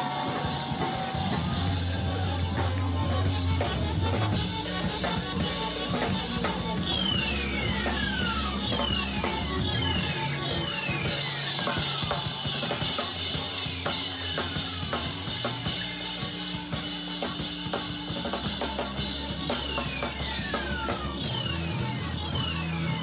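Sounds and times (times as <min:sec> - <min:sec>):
drum kit beat: 0:00.0 - 0:23.0.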